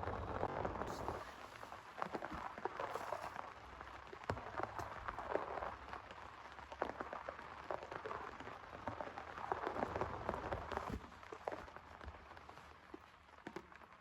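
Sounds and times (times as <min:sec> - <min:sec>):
raindrops ticking on surface: 0:00.0 - 0:14.0.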